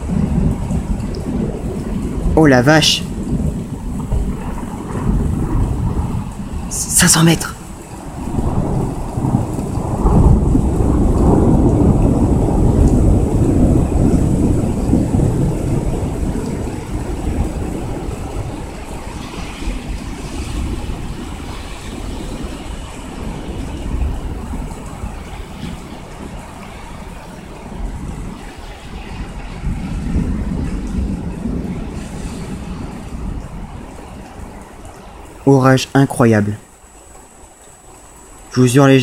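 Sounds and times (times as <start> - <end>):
rolling thunder: 0.0 - 35.5
rain: 0.0 - 39.0.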